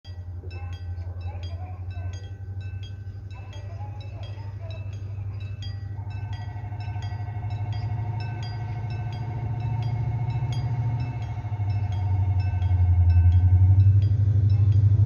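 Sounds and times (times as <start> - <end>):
level crossing bell ringing: 0.0 - 15.0
steady mid-pitched tone: 0.0 - 15.0
low rumble: 0.1 - 15.0.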